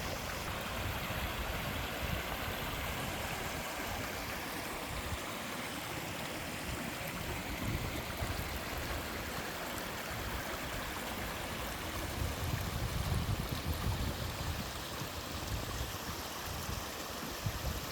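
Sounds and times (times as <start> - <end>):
stream water rushing over rock: 0.0 - 17.9.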